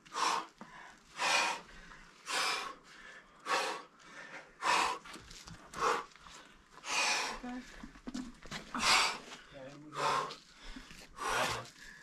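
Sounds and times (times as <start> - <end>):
person breathing forcefully: 0.0 - 7.9, 8.6 - 12.0.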